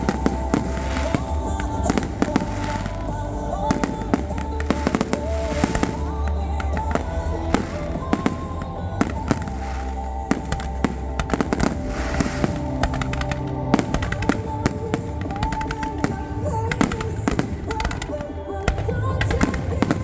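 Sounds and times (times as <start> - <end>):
fireworks bangs and crackles: 0.0 - 20.0
song with steady bass: 0.0 - 20.0.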